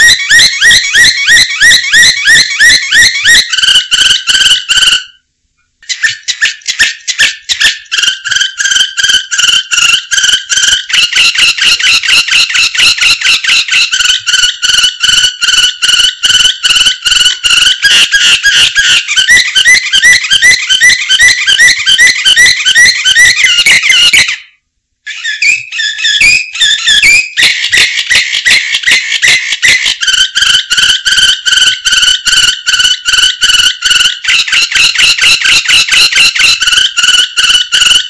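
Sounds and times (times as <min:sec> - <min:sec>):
canary singing trills: 0:00.0 - 0:05.2, 0:05.8 - 0:38.0.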